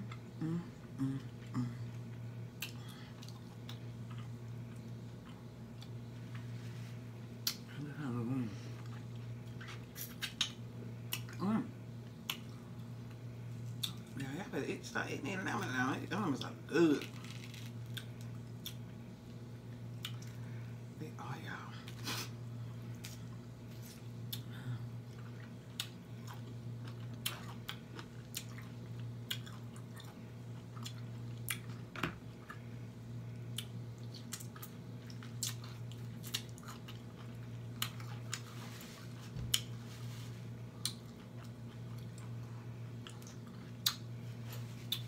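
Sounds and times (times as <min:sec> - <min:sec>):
person chewing and smacking food: 0:00.0 - 0:06.5, 0:08.7 - 0:11.4, 0:12.1 - 0:14.1, 0:17.6 - 0:20.5, 0:22.8 - 0:45.0
steady low hum: 0:00.0 - 0:45.0.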